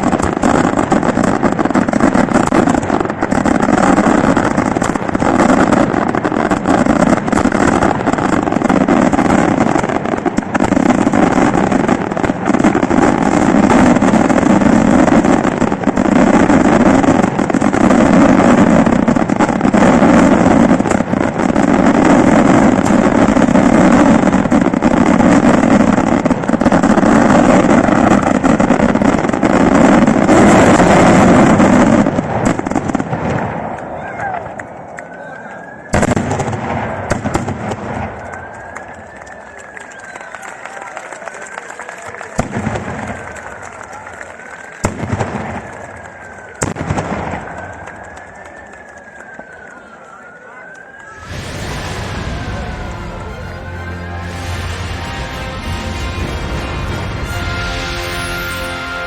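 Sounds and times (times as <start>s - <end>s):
fireworks detonations and crackling: 0.0s - 59.0s.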